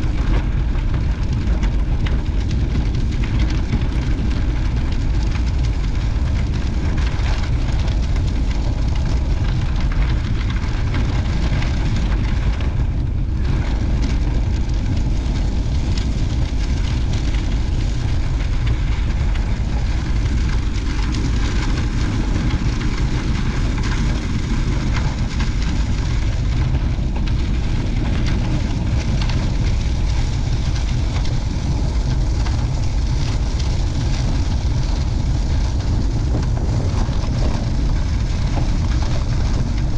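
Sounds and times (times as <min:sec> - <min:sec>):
rushing wind noise: 0:00.0 - 0:39.9
wind buffeting the microphone: 0:00.0 - 0:39.9.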